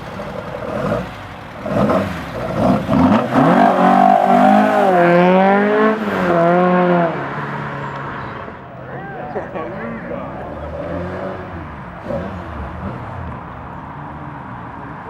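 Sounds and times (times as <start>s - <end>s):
car engine revving: 0.0s - 8.7s, 9.6s - 15.0s.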